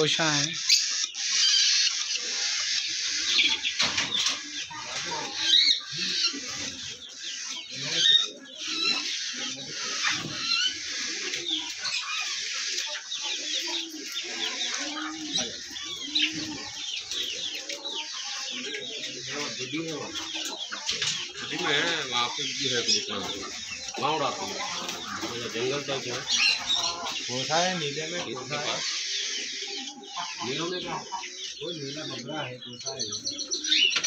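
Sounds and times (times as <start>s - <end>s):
birds clucking and cooing: 0.0s - 34.0s
small birds chirping: 0.0s - 34.0s.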